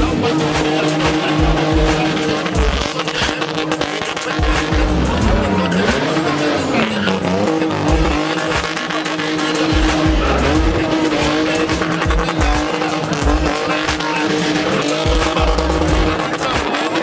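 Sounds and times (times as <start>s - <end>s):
car engine revving high: 0.0s - 17.0s
music with deep bass thumps: 0.0s - 17.0s
tyres squealing and skidding: 0.0s - 17.0s.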